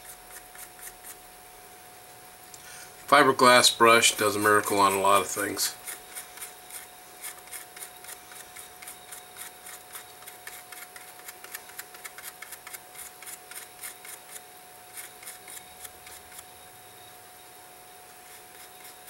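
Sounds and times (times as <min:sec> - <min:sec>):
brush scratching metal: 0:00.0 - 0:01.2, 0:03.4 - 0:16.6, 0:18.0 - 0:19.0.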